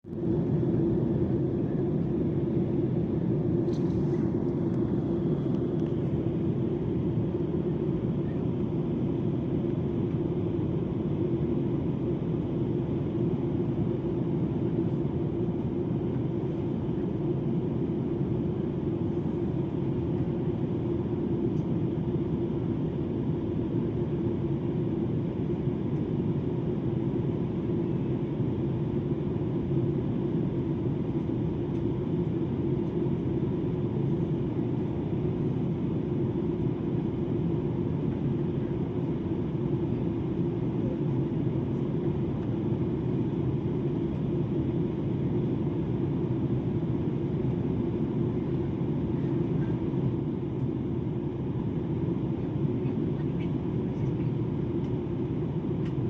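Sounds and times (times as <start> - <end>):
jet cabin engine drone: 0.0 - 56.0.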